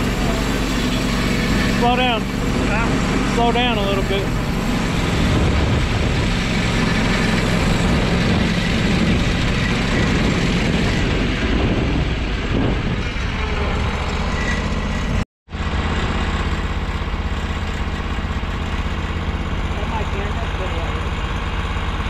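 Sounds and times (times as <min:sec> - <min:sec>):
band saw cutting log: 0:00.0 - 0:22.0
sawmill engine running under load: 0:00.0 - 0:22.0.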